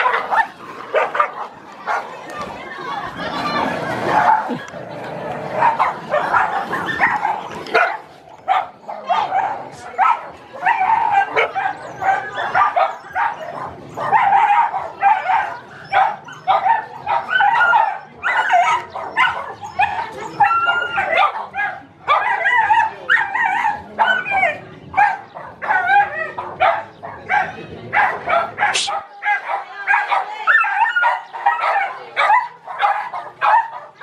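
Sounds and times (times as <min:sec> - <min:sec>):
dogs barking and yelping: 0:00.0 - 0:34.0.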